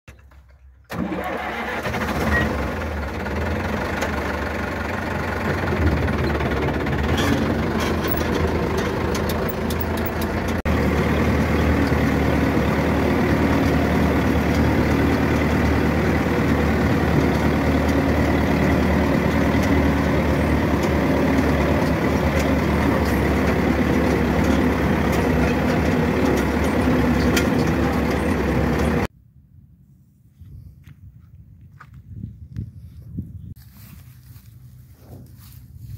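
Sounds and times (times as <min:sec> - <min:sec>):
tractor diesel engine running: 0:00.1 - 0:29.1, 0:33.5 - 0:35.9.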